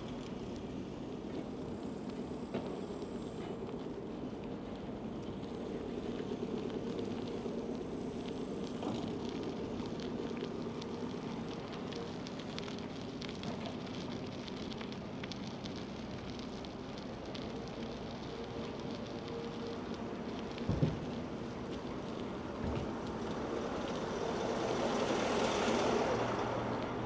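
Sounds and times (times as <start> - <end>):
bicycle tyres rumbling on road: 0.0 - 27.0
small crackling ticks: 0.0 - 27.0.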